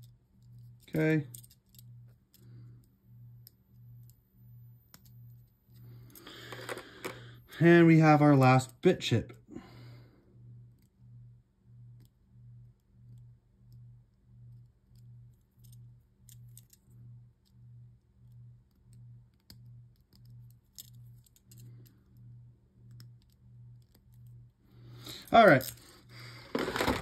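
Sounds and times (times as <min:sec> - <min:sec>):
low pulsing hum: 0:00.0 - 0:27.0.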